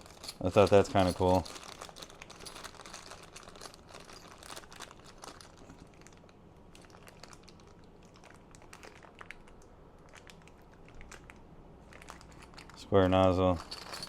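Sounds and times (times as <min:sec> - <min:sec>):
bag crinkling: 0:00.0 - 0:14.0
small clicks and crackles: 0:00.0 - 0:14.0.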